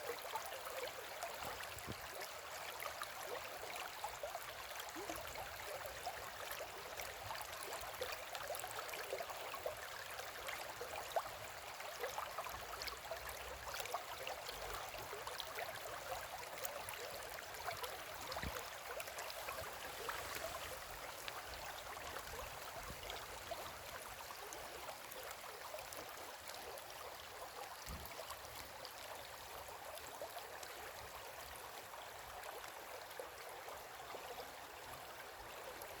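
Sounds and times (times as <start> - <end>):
river babbling over stones: 0.0 - 36.0.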